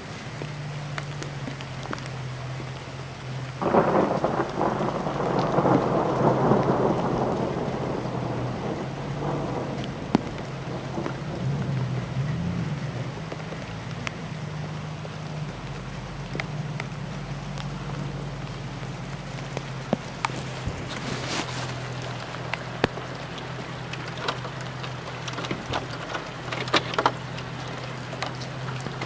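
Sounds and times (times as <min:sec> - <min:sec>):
falling drops ticking: 0:00.3 - 0:20.6, 0:21.6 - 0:29.0
thunder clap rumbling: 0:03.5 - 0:29.0.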